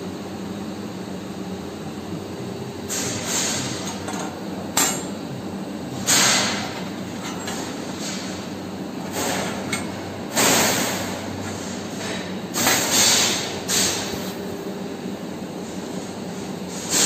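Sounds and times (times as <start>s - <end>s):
laser cutting machine hum: 0.0s - 17.0s.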